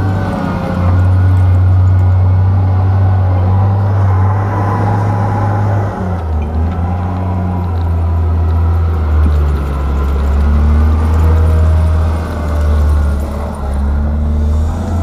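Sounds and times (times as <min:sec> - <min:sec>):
diesel engine low drone: 0:00.0 - 0:15.0.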